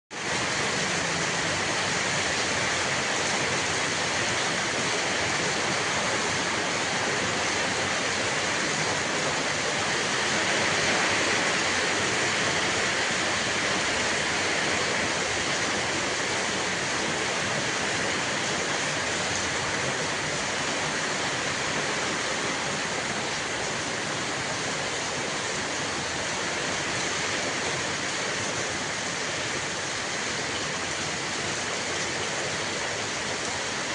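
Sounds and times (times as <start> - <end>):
rainwater pouring and running off: 0.1 - 33.9.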